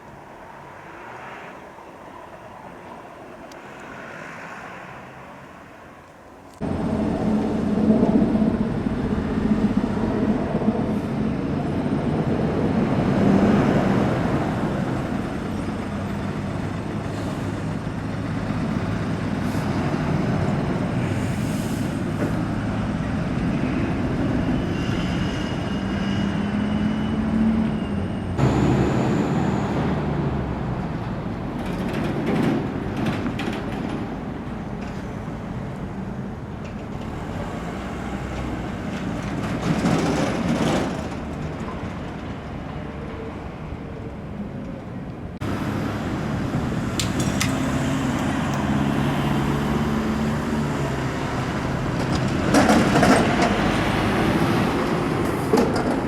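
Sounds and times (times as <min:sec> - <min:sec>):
electric train rumbling past: 0:00.0 - 0:56.0.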